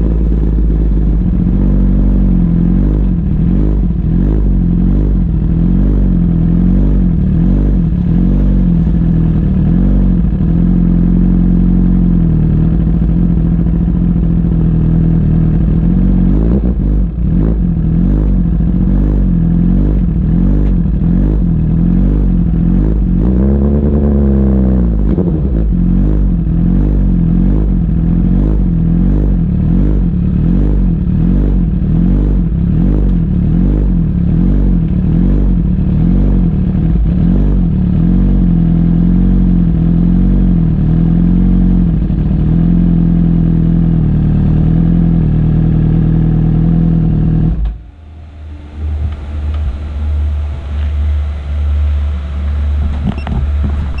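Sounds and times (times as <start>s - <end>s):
faint low rumble: 0.0s - 54.0s
motorcycle engine running: 0.0s - 54.0s.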